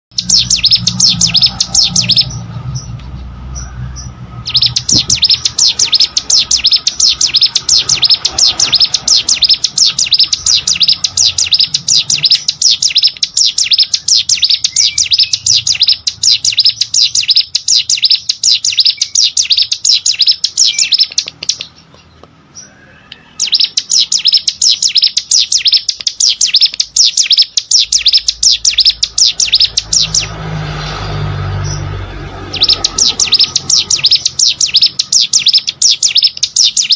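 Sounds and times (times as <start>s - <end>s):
bird singing rapid high notes: 0.1s - 36.9s.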